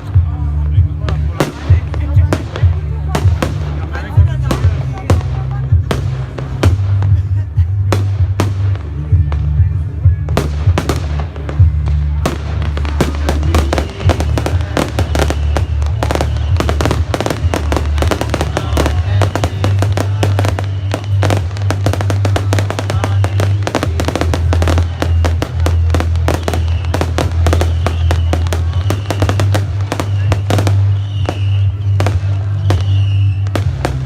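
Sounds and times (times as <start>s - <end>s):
loud music with heavy bass: 0.0s - 31.4s, 33.4s - 34.0s
fireworks bangs and crackles: 0.0s - 34.0s.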